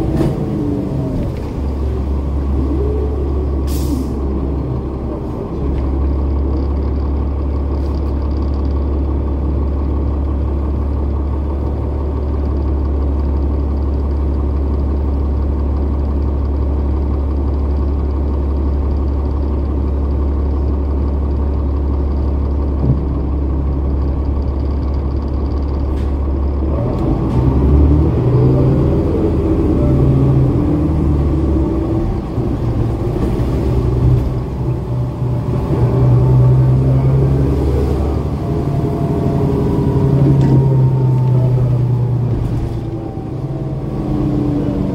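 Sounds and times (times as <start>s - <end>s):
bus diesel engine idling: 0.0s - 44.9s
bus engine accelerating: 0.0s - 44.9s.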